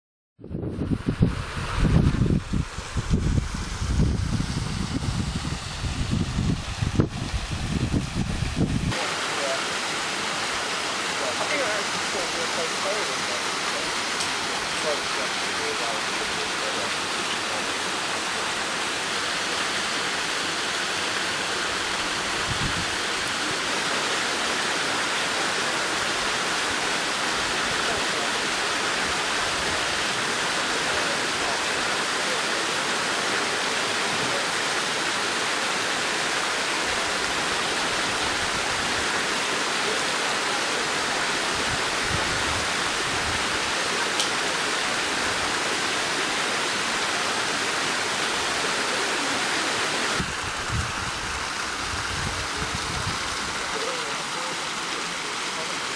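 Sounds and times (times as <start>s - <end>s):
stream pouring into shaft: 0.8s - 55.9s.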